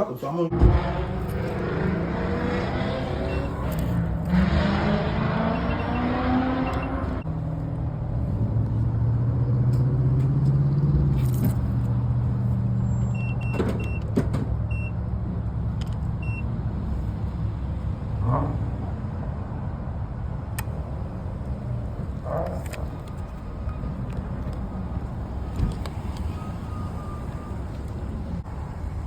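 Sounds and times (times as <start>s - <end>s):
car engine and road noise: 0.0s - 29.0s.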